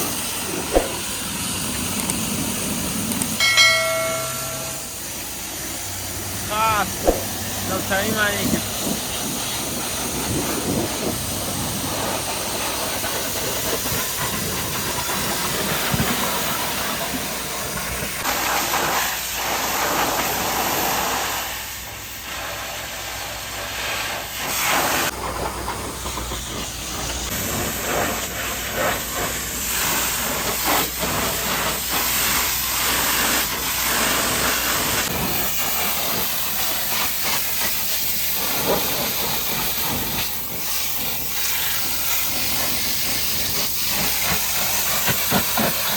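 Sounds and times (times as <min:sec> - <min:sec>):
pressure washer spraying: 0:00.0 - 0:45.9.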